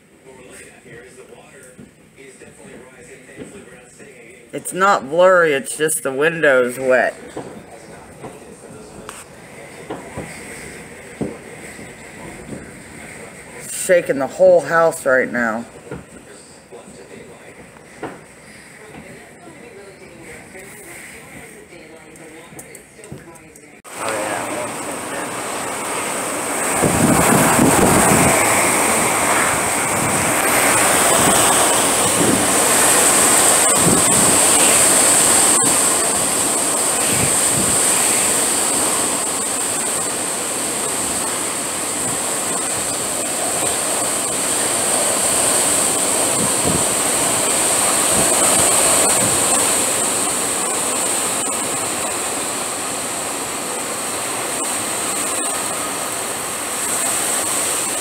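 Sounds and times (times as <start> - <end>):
gusting wind with rain: 2.8 - 23.0, 23.8 - 58.0.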